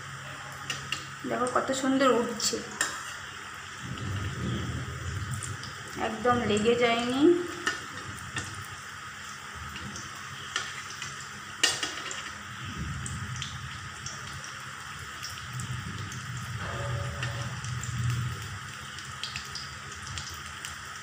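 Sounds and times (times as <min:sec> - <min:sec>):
fritters sizzling in oil: 0:00.0 - 0:21.0.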